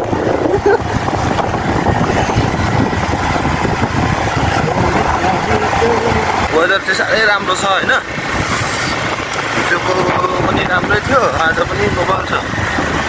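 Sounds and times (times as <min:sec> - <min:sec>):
jolting road rumble: 0:00.0 - 0:13.0
vehicle engine: 0:00.0 - 0:13.0.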